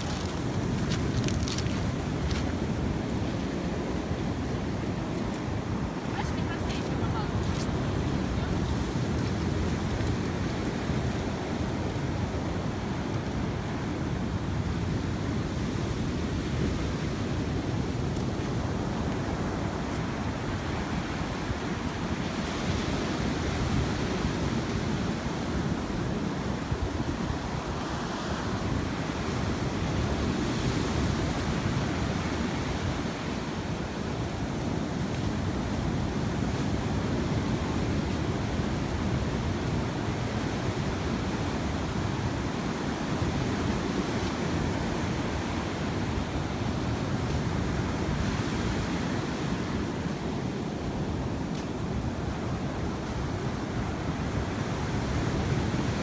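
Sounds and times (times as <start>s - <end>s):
sea surf washing ashore: 0.0s - 56.0s
wind rumbling on microphone: 0.0s - 56.0s.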